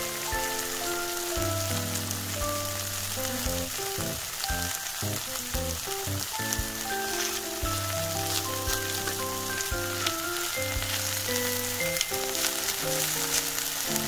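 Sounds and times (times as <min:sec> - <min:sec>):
background music: 0:00.0 - 0:14.0
potato strips sizzling in a pan: 0:00.0 - 0:14.0.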